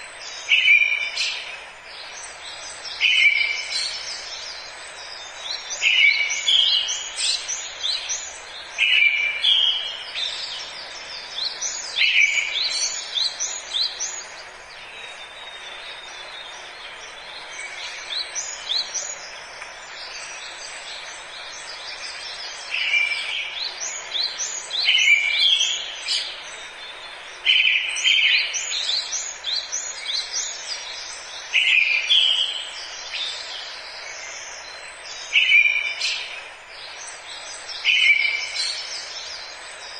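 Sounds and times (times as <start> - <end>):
songbirds singing: 0.0 - 39.9
steady hiss: 0.0 - 39.9.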